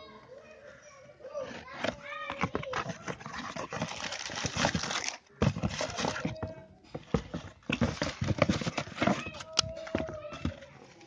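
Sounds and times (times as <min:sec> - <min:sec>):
tissue paper and cardboard rustling: 0:01.4 - 0:11.0.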